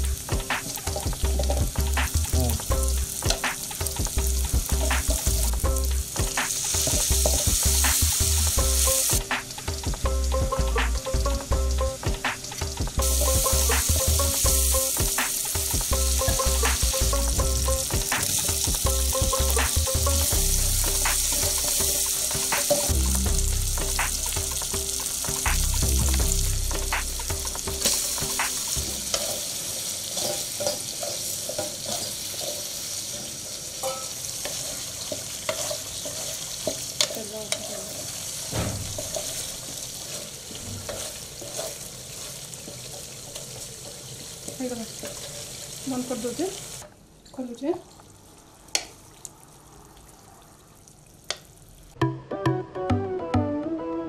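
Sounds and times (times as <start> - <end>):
onions sizzling in hot oil: 0.0 - 52.0.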